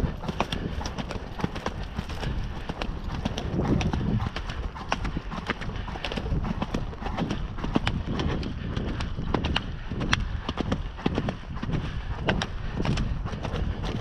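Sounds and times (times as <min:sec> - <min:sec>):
horse hoofbeats: 0:00.0 - 0:14.0.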